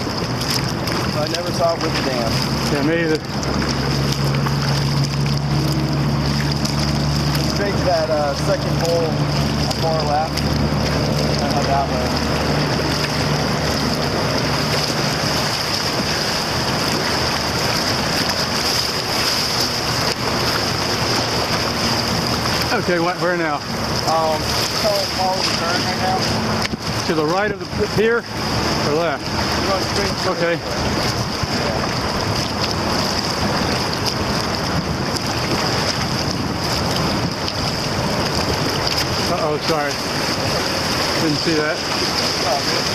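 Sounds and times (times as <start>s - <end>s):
rushing whitewater: 0.0s - 42.9s
splashing paddle strokes: 0.0s - 42.9s
wind buffeting microphone: 0.0s - 42.9s.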